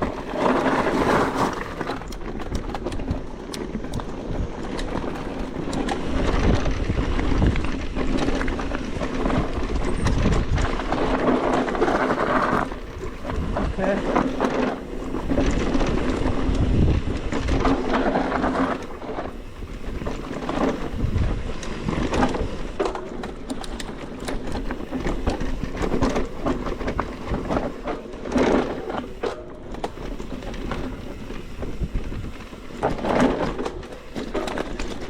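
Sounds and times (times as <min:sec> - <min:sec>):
bike clicking and rattling: 0:00.0 - 0:35.0
bike tyres on dirt: 0:00.0 - 0:35.0
wind rumbling on microphone: 0:00.0 - 0:35.0.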